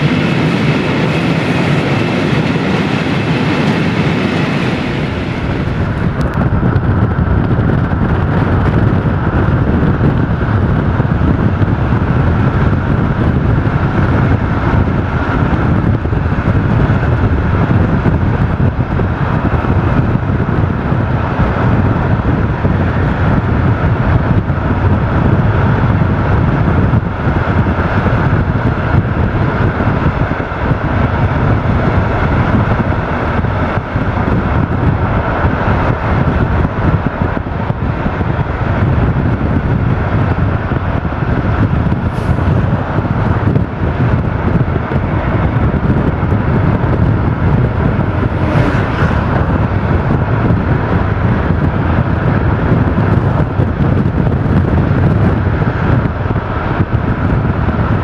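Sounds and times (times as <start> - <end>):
road and wind noise from car: 0.0 - 58.0
whoosh of passing cars: 0.0 - 58.0.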